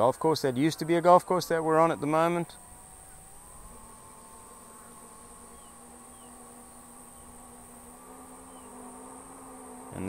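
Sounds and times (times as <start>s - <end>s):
drone motors humming overhead: 0.0s - 10.0s
high insect buzz: 0.0s - 10.0s.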